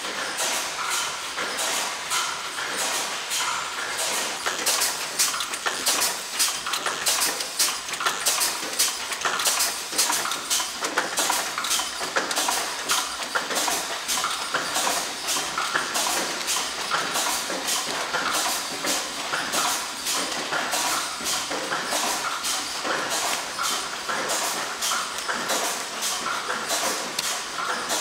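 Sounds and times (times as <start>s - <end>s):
machinery clicking and clacking: 0.0s - 28.0s.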